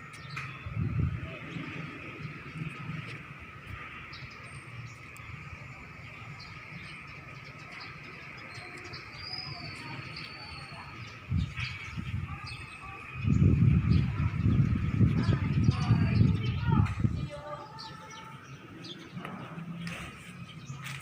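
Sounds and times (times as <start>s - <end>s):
birds chirping and calling: 0.0s - 21.0s.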